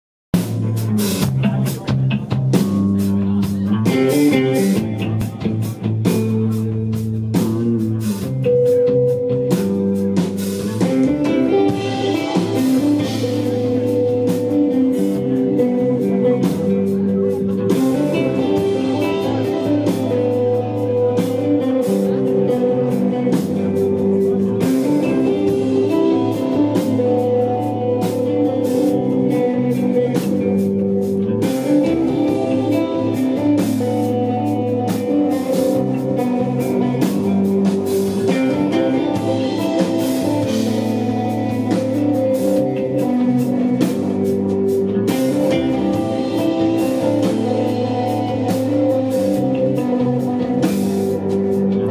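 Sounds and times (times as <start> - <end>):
bass line: 0.3 - 51.9
drum kit with cymbal hits: 0.4 - 51.9
electric guitar melody: 0.4 - 51.9.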